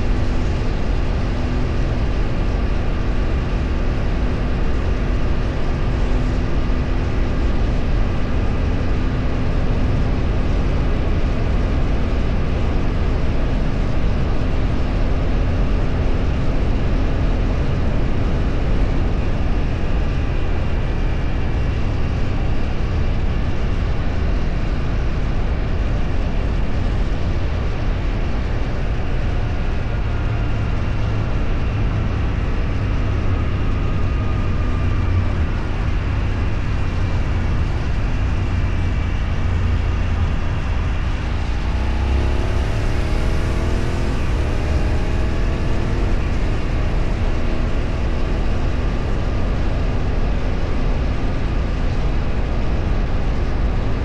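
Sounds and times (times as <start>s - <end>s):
road noise: 0.0s - 54.0s
vehicle engine: 0.0s - 54.0s
wind rush on microphone: 0.0s - 54.0s.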